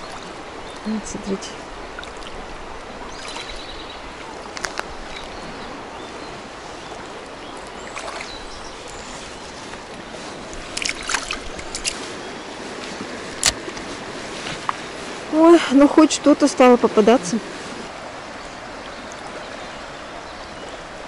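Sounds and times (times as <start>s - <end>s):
river running over stones: 0.0s - 21.0s.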